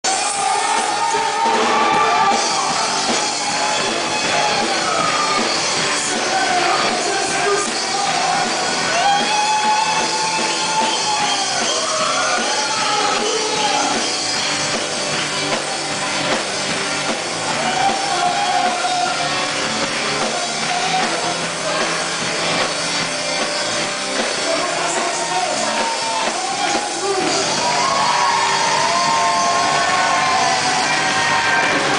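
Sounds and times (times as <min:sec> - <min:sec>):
rock band playing: 0:00.0 - 0:31.9.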